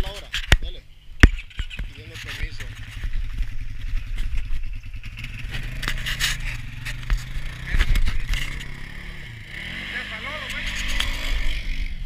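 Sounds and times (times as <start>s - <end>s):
atv engine running: 1.2s - 12.0s.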